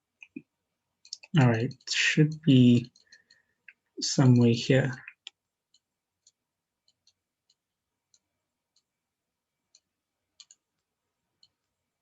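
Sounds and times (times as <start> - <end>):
computer mouse clicks: 0.2 - 4.5, 5.1 - 8.9, 9.7 - 11.8.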